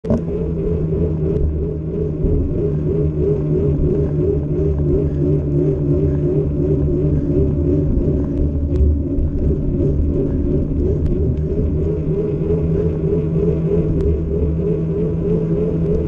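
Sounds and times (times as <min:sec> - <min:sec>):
wavering hum: 0:00.0 - 0:16.0.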